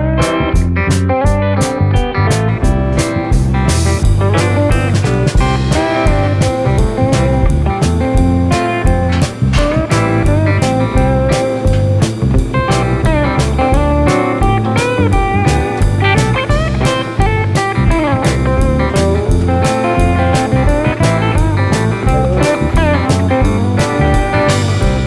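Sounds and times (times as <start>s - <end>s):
blues-rock music: 0.0s - 25.0s.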